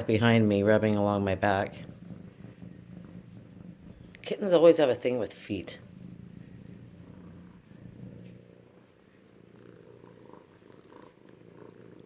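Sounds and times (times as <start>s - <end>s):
cats purring: 0.0s - 12.0s.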